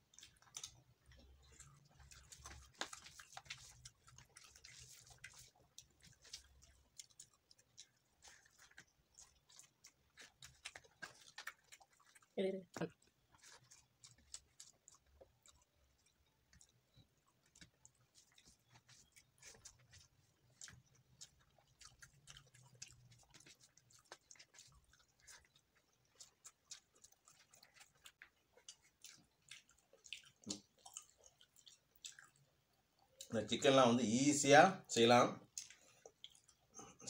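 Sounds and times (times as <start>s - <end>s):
person chewing food: 0.0s - 33.6s, 35.4s - 37.0s.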